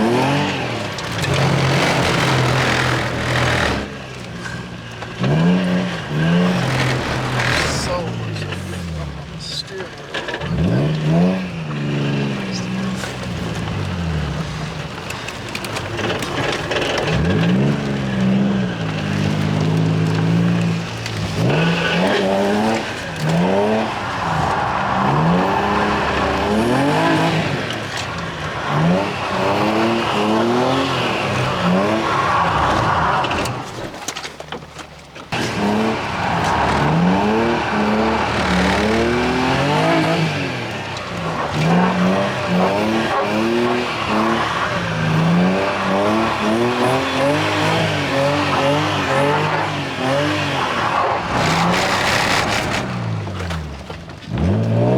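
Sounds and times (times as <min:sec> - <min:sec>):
car engine revving hard: 0:00.0 - 0:04.6, 0:05.2 - 0:09.3, 0:10.2 - 0:33.8, 0:35.3 - 0:54.9.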